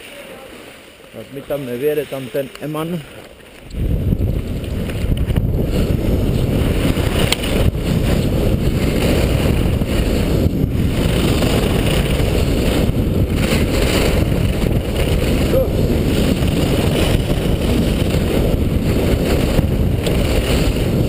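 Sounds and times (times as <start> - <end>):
skis carving on packed snow: 0.0 - 21.0
wind buffeting microphone: 3.6 - 21.0.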